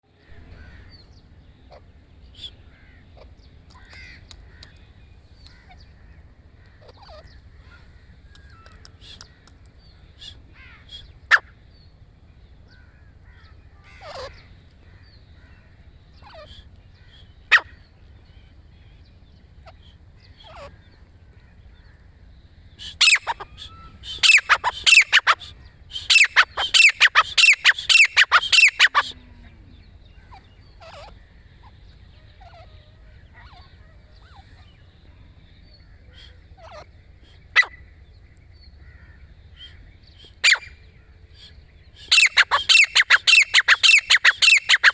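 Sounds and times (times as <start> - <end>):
francolin calling: 0.1 - 44.9.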